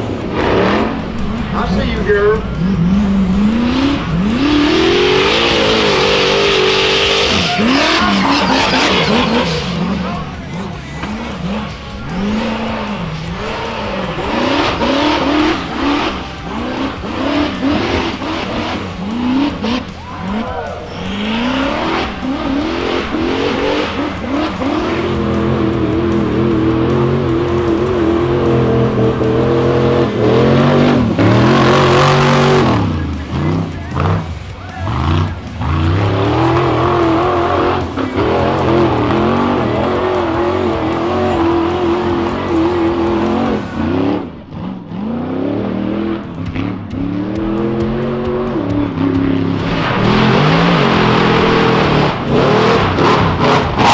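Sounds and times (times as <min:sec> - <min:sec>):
buggy engines revving: 0:00.0 - 0:53.9.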